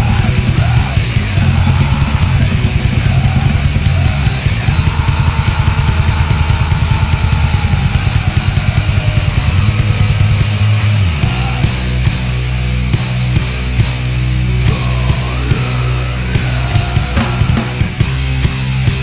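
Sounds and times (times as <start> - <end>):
distorted guitar: 0.0 - 19.0
fast dense drumming: 0.0 - 19.0
grindcore metal song: 0.0 - 19.0.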